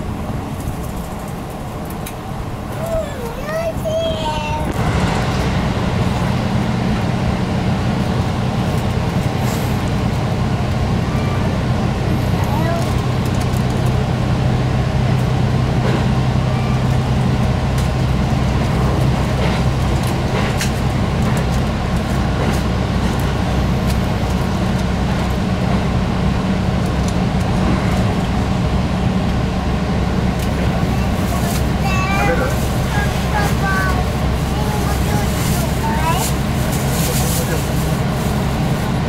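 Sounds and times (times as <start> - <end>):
diesel engine hum: 0.0 - 39.0
train wheels rumbling on rail: 0.0 - 39.0.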